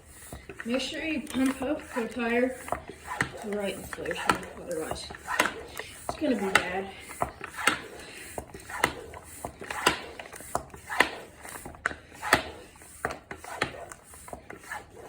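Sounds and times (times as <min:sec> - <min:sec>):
bicycle pump strokes: 0:00.0 - 0:15.0.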